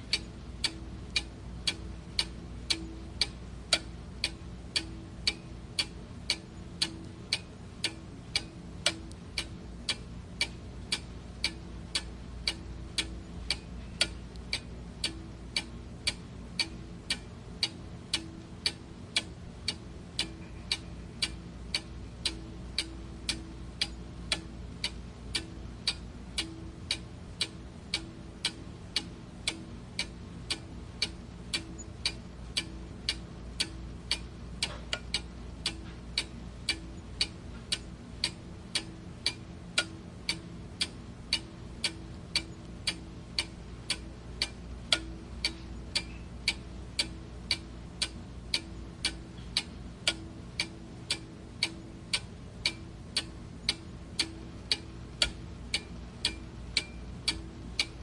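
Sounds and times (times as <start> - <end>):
clock ticking: 0.0 - 58.0
faint low hum: 0.0 - 58.0.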